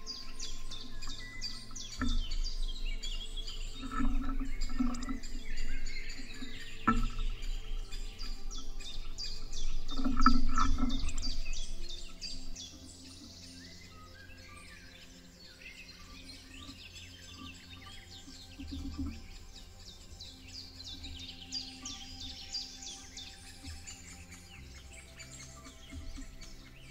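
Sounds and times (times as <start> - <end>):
birds chirping and whistling: 0.0 - 26.9.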